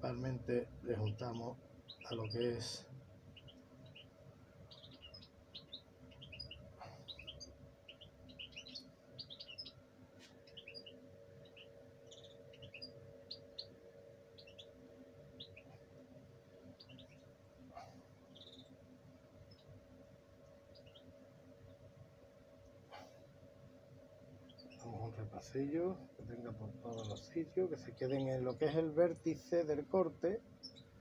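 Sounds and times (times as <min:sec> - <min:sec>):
low steady hum: 0:00.0 - 0:31.0
small birds chirping: 0:00.0 - 0:31.0.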